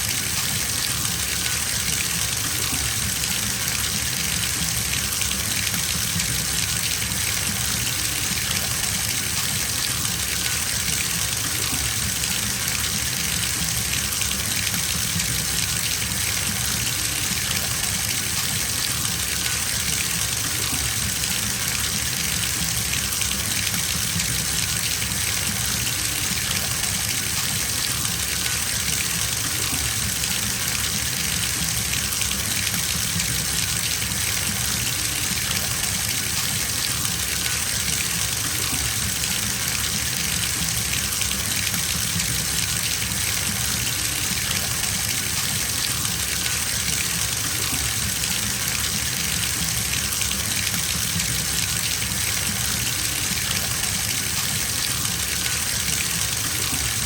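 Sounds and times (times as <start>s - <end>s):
water pouring into bathtub: 0.0s - 57.0s.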